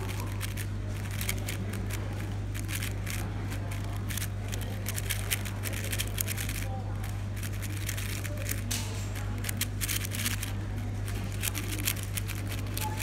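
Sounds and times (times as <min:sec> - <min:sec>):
puzzle cube clicking: 0:00.2 - 0:06.7, 0:07.4 - 0:10.5, 0:11.2 - 0:13.0.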